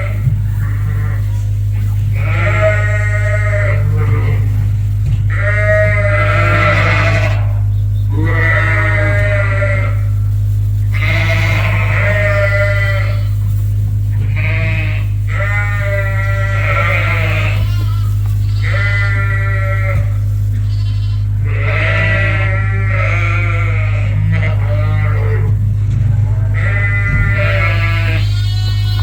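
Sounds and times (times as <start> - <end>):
sheep bleating: 0.0 - 10.2, 10.9 - 29.0
low hum: 0.0 - 28.9.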